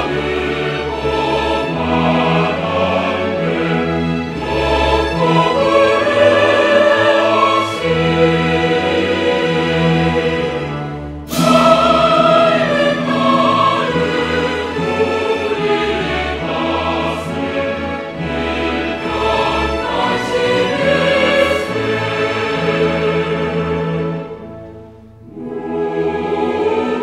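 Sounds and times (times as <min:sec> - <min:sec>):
choir singing long notes: 0:00.0 - 0:27.0
orchestra playing: 0:00.0 - 0:27.0.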